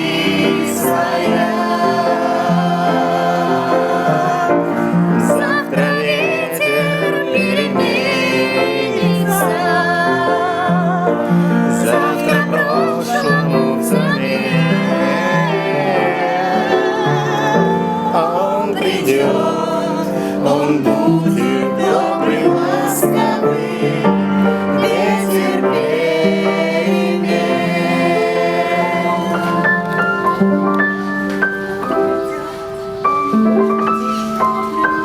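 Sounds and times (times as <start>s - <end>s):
people singing: 0.0s - 35.0s
piano playing a song: 0.0s - 35.0s.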